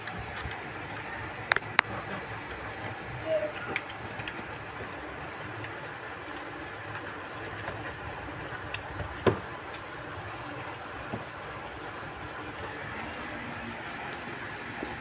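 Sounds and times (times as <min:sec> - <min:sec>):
rumbling background noise: 0:00.0 - 0:15.0.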